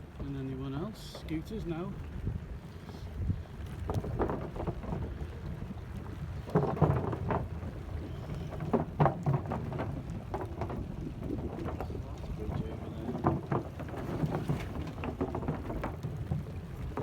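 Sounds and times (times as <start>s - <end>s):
bicycle riding on wooden boardwalk: 0.0s - 17.0s
wind buffeting microphone: 1.6s - 17.0s.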